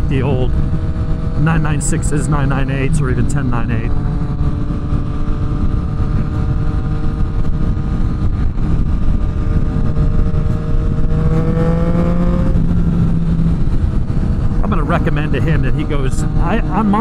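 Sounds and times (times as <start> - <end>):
heavy wind rush: 0.0 - 17.0
motorcycle engine running: 0.0 - 17.0.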